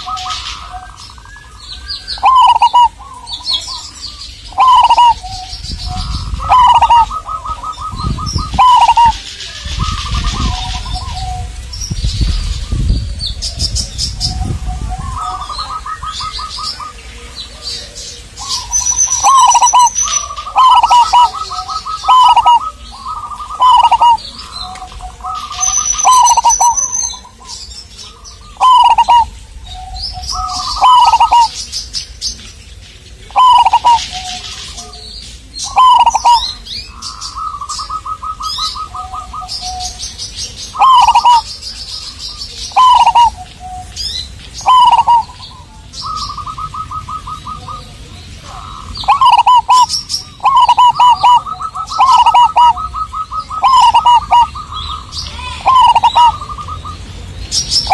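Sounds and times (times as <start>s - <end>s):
dove cooing: 0.0s - 11.7s, 13.4s - 31.6s, 33.3s - 57.0s
small birds chirping: 0.0s - 57.9s.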